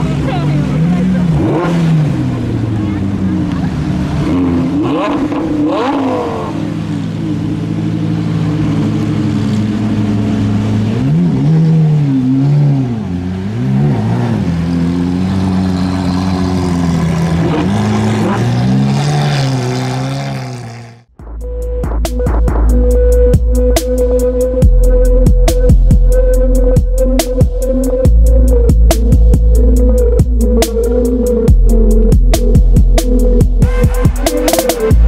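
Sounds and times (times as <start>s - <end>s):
car engine revving: 0.0s - 21.2s, 21.8s - 35.0s.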